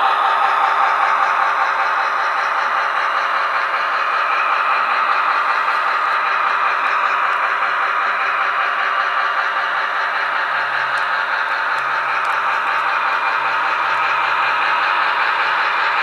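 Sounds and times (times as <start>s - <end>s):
diesel engine sound from small speaker: 0.0s - 16.0s.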